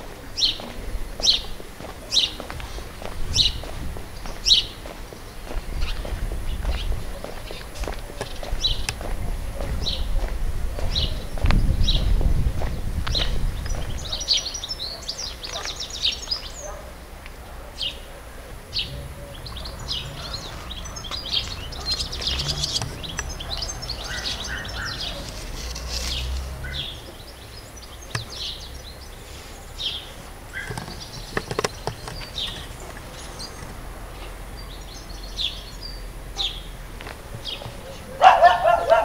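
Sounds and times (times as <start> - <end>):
songbirds chirping and singing: 0.0 - 39.0.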